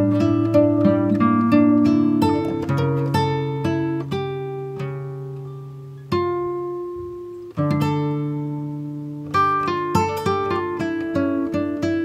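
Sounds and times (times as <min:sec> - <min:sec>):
acoustic guitar chords ringing: 0:00.0 - 0:12.0.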